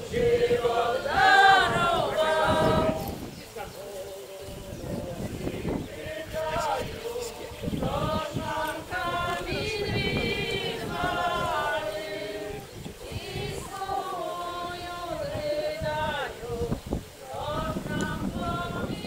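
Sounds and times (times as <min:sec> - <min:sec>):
group chanting together: 0:00.0 - 0:19.0.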